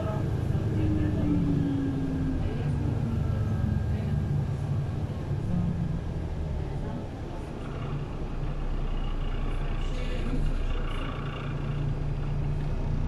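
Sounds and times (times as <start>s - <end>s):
bus engine hum: 0.0s - 13.0s
tyres on wet road: 0.0s - 13.0s.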